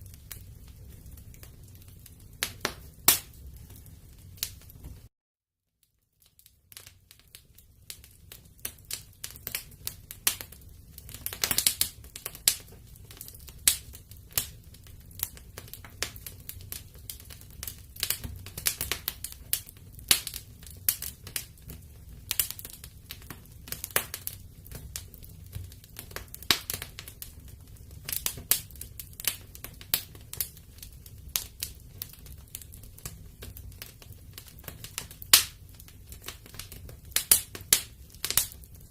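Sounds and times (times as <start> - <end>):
low rumble of flames: 0.0 - 5.1, 6.4 - 38.9
wood fire crackling and popping: 0.0 - 5.1, 5.8 - 38.9.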